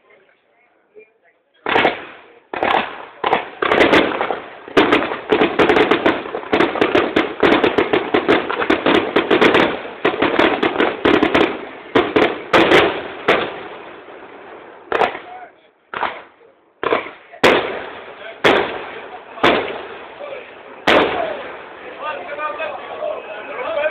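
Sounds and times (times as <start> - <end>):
fireworks bangs and crackling: 1.6 - 23.9
sharp firework cracks: 1.7 - 22.4.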